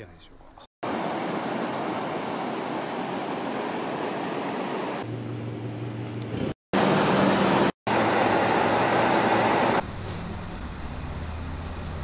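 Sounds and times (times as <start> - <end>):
rushing outdoor noise: 0.8 - 12.0.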